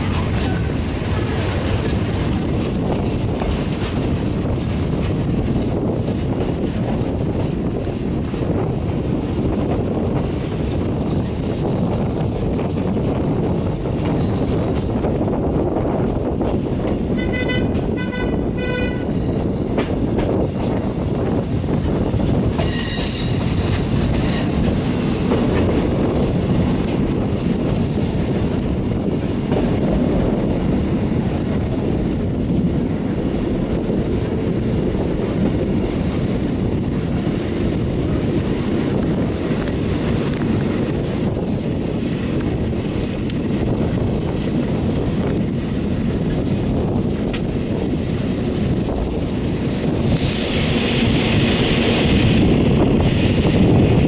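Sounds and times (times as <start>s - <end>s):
train wheels rumbling on rails: 0.0s - 54.0s
wind: 0.0s - 54.0s.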